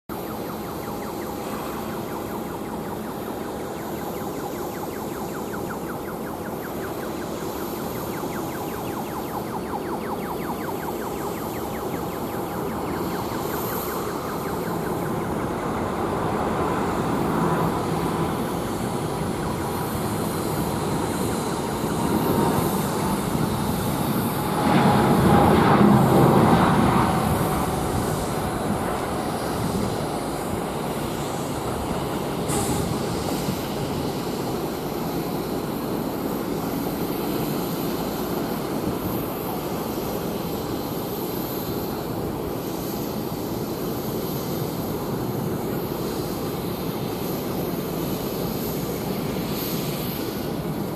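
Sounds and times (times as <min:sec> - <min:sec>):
jet engine roar with whine: 0:00.0 - 0:50.9.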